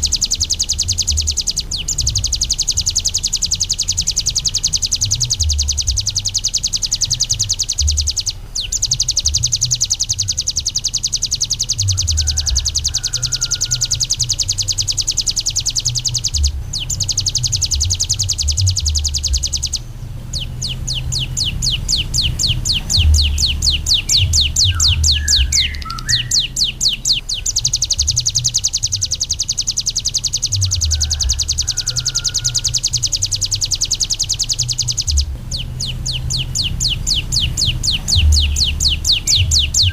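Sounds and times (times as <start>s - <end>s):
low rumble: 0.0s - 31.7s, 32.4s - 39.9s
small birds chirping: 0.0s - 39.9s
songbird rattling trill: 0.0s - 39.9s.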